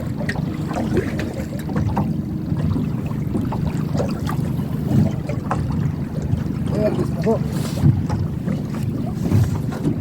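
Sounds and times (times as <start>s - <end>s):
water slapping against boat: 0.0s - 10.0s.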